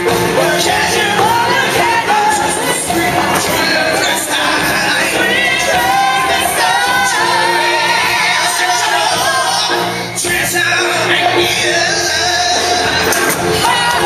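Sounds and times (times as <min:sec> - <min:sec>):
loud amplified backing music: 0:00.0 - 0:14.0
performers singing together: 0:00.0 - 0:14.0.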